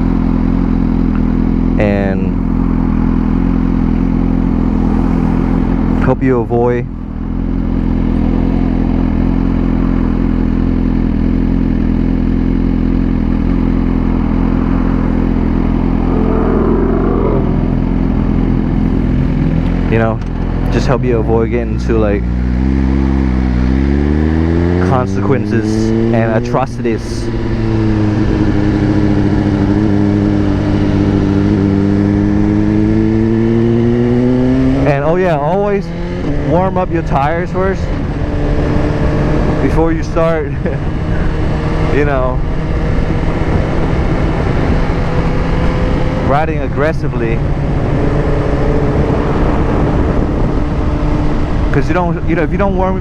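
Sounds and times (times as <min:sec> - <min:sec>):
motorcycle engine droning: 0:00.0 - 0:53.0
wind and road noise: 0:00.0 - 0:53.0.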